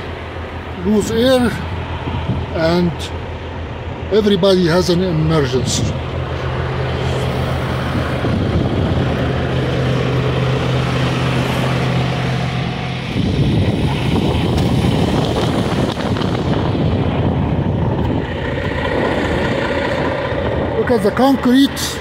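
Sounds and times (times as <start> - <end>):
diesel engine idling: 0.0 - 22.0
rough noisy engine rumble: 0.0 - 22.0.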